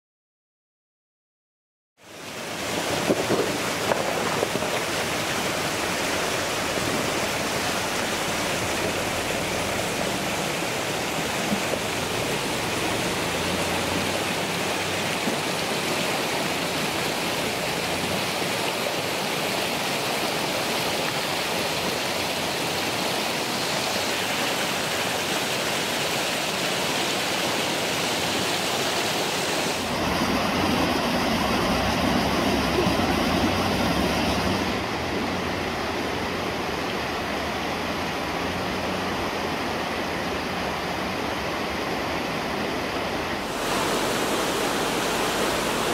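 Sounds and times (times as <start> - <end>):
creek water over rocks: 2.0 - 45.9.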